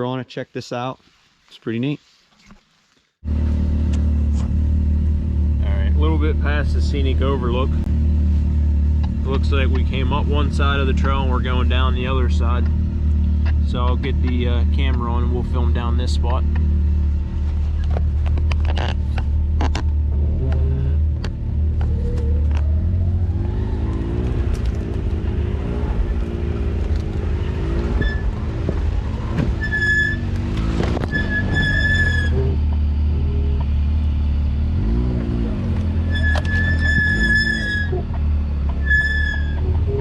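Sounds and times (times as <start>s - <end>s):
vehicle engine running at low revs: 3.2s - 38.8s
brakes squealing: 3.2s - 40.0s.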